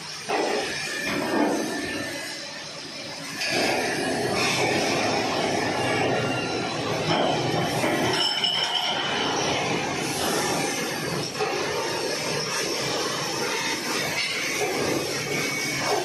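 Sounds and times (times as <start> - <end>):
dense machinery noise: 0.0 - 16.0.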